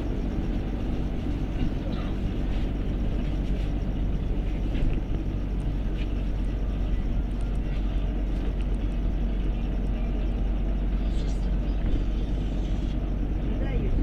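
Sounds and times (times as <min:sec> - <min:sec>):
bus engine low rumble: 0:00.0 - 0:14.0.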